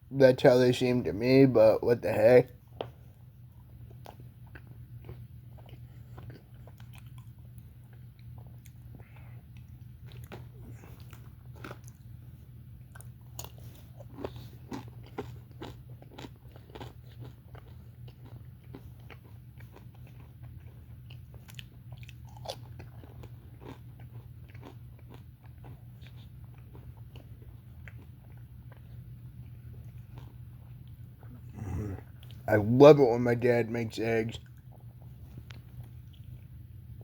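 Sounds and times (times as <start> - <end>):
steady low hum: 0.0 - 37.0
person chewing crunchy food: 2.2 - 32.5, 34.4 - 37.0.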